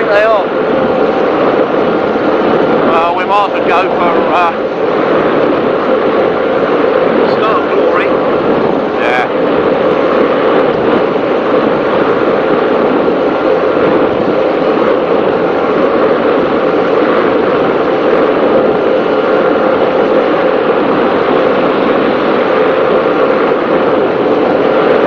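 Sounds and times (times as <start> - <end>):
powerboat running at speed: 0.0 - 25.0.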